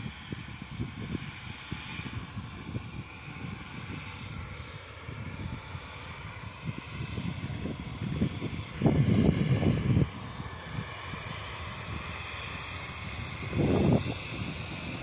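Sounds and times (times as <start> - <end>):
faint high engine whine: 0.0 - 15.0
wind buffeting microphone: 0.0 - 15.0
jet engines hissing: 0.5 - 15.0.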